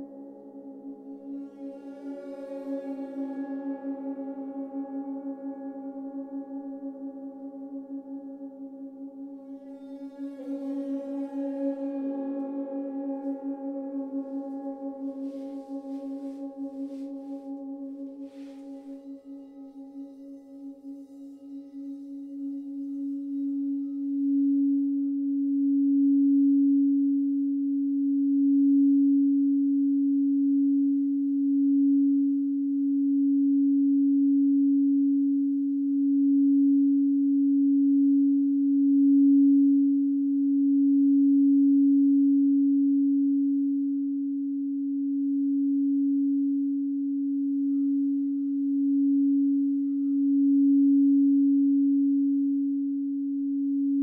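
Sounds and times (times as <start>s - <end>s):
singing bowl tone: 0.0s - 54.0s.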